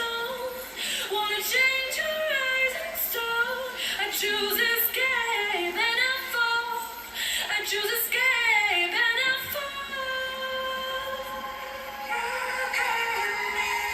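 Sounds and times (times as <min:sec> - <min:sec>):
pop song with woman singing: 0:00.0 - 0:13.9.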